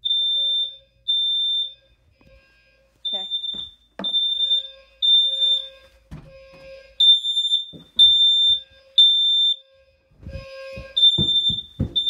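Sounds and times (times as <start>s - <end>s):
fire alarm beeps: 0.0s - 12.0s.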